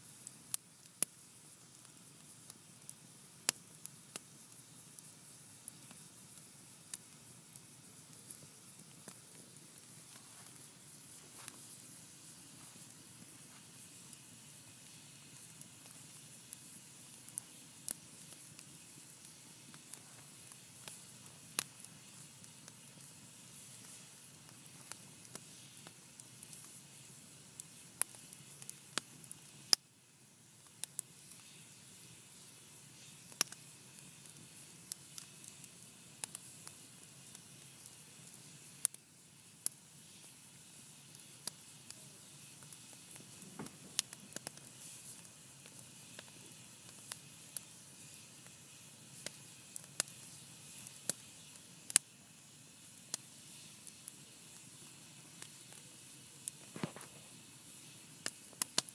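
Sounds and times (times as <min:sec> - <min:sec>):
campfire crackling: 0:00.0 - 0:58.9.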